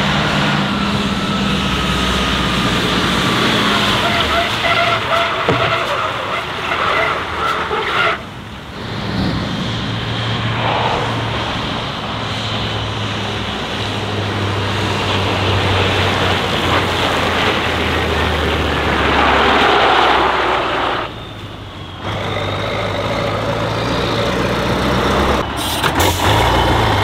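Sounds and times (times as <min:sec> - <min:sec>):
truck diesel engine drone: 0:00.0 - 0:27.0.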